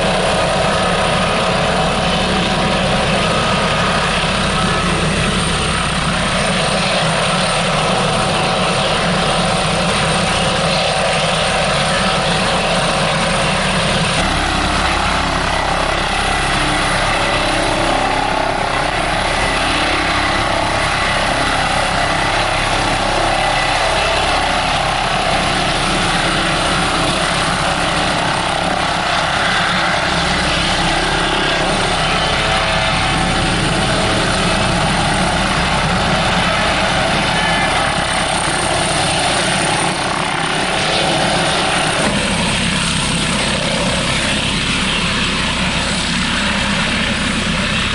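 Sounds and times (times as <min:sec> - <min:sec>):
helicopter hovering: 0:00.0 - 0:47.9.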